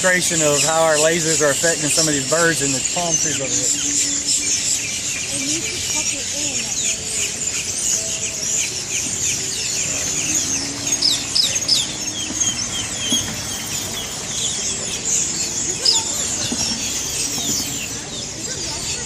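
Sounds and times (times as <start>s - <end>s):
flock of birds chirping: 0.0s - 19.0s.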